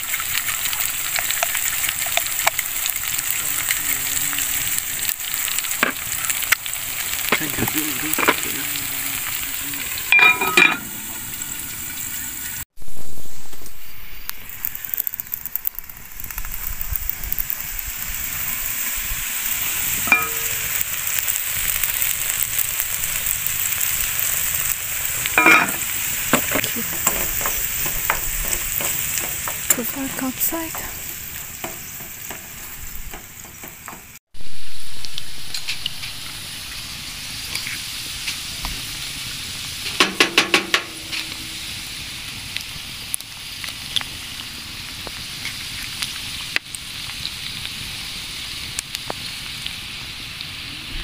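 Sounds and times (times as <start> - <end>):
food sizzling in a frying pan: 0.0 - 51.0.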